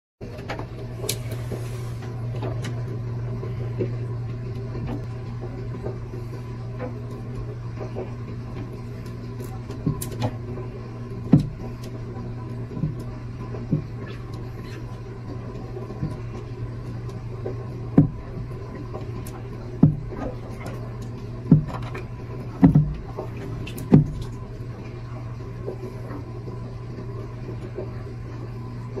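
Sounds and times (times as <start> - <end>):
aquarium equipment hum: 0.2 - 29.0.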